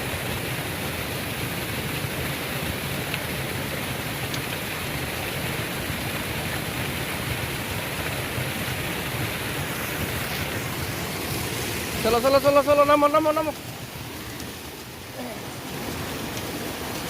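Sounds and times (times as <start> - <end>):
waterfall pouring: 0.0 - 17.0.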